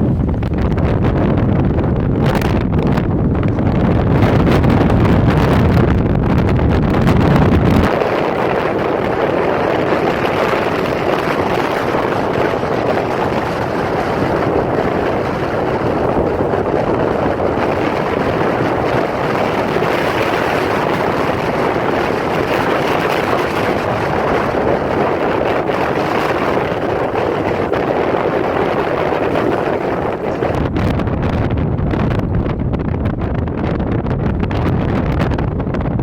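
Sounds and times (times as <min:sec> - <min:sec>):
strong wind rushing: 0:00.0 - 0:36.0.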